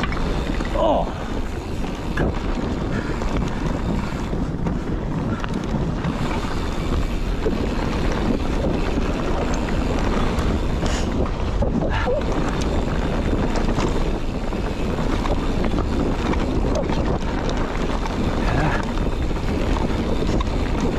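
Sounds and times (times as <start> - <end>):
bike tyres rumbling on dirt: 0.0 - 20.9
wind noise on microphone: 0.0 - 20.9.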